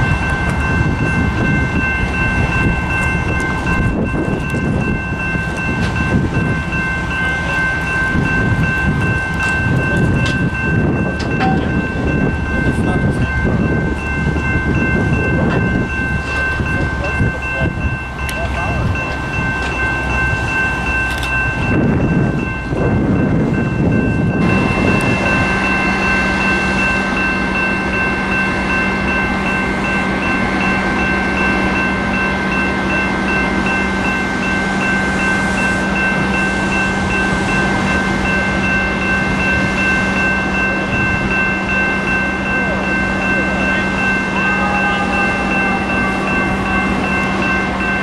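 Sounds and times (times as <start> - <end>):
diesel locomotive rumble: 0.0 - 48.0
high whine: 0.0 - 48.0.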